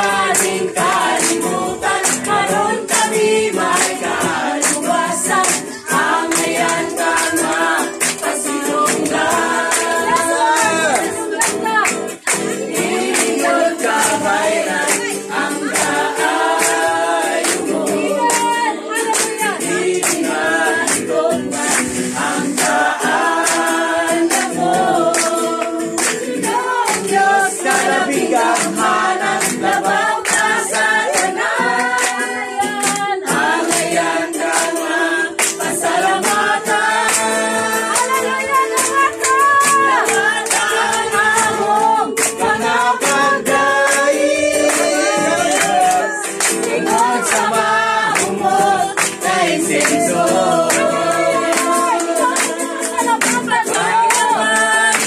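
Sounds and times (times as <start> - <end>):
acoustic guitar: 0.0 - 55.0
group singing worship song: 0.0 - 55.0
hand-clapping: 0.0 - 55.0.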